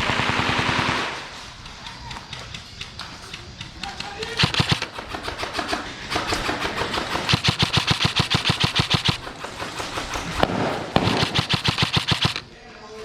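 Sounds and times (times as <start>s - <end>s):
airsoft gun firing bursts: 0.0s - 12.6s.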